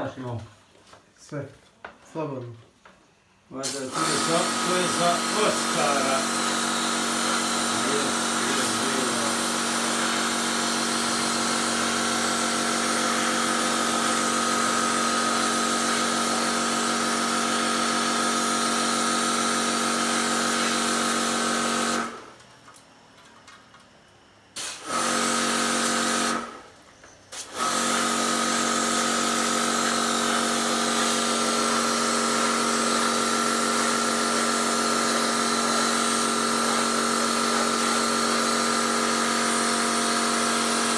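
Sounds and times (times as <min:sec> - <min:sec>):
pressure washer whining: 0:03.6 - 0:22.3, 0:24.6 - 0:26.7, 0:27.3 - 0:40.9.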